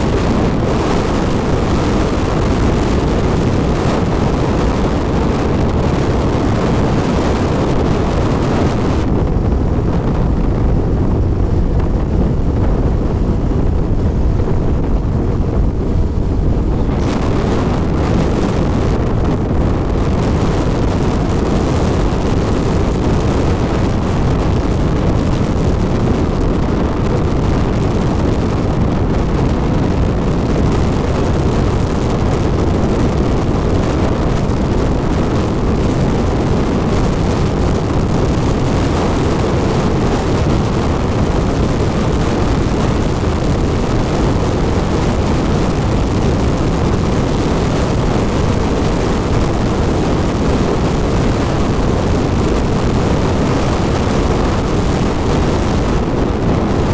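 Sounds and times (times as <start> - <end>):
wind and road rush: 0.0 - 56.9.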